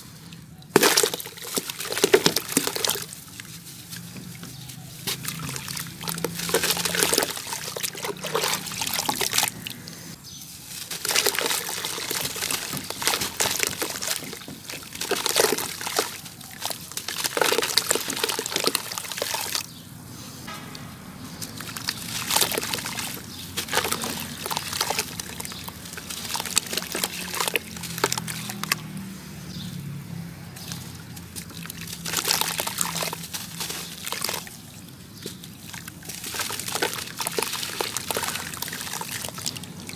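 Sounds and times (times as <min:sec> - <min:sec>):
cement lumps crunching by hand: 0:00.7 - 0:19.7, 0:21.6 - 0:29.0, 0:30.6 - 0:39.9.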